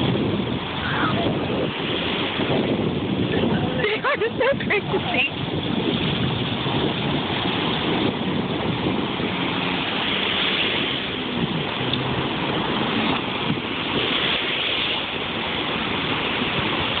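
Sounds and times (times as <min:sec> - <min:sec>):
jet ski engine running: 0:00.0 - 0:17.0
water rushing: 0:00.0 - 0:17.0
wind noise: 0:00.0 - 0:17.0.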